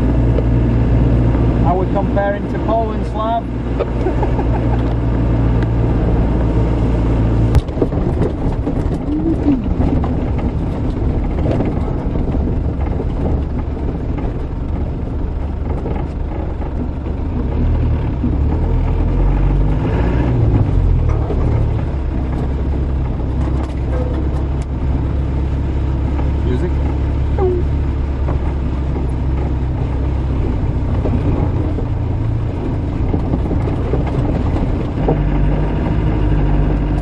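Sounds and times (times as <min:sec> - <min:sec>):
engine running while driving: 0:00.0 - 0:37.0.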